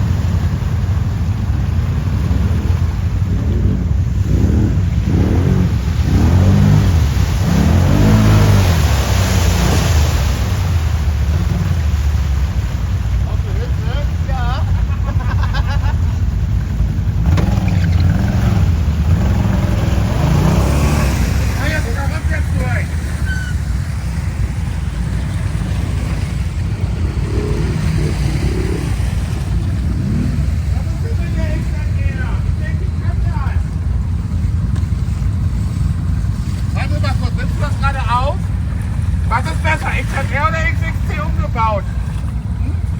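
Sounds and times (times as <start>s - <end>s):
quad engine revving: 0.0s - 12.9s, 13.5s - 42.9s
steady rushing noise: 0.0s - 15.3s, 16.0s - 42.9s.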